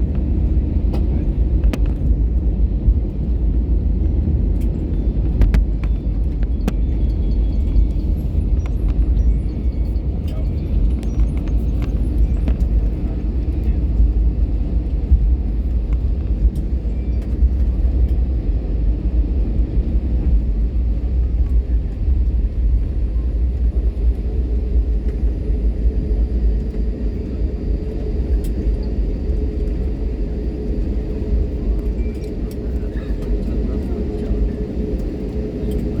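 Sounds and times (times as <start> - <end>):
airliner cabin rumble: 0.0 - 36.0.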